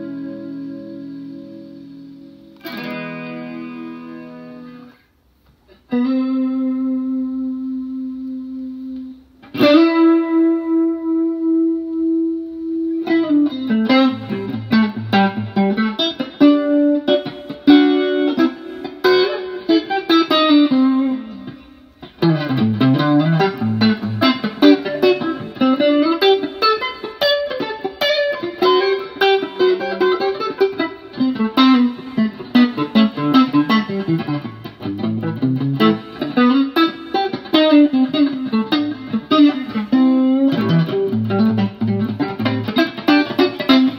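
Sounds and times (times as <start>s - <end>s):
electric guitar with rotary effect: 0.0s - 43.9s.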